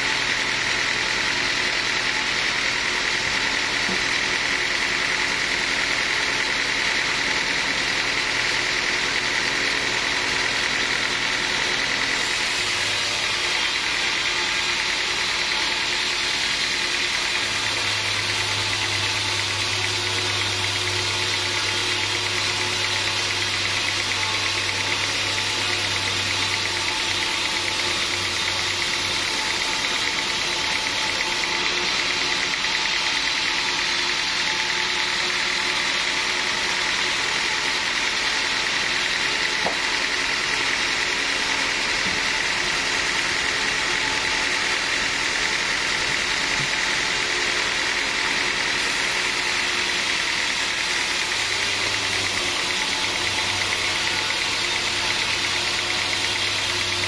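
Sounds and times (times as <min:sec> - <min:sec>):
sawmill machinery hissing: 0:00.0 - 0:57.0.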